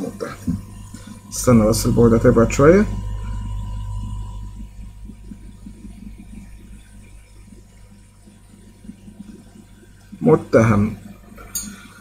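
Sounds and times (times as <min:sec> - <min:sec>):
equipment humming: 0:00.0 - 0:12.0.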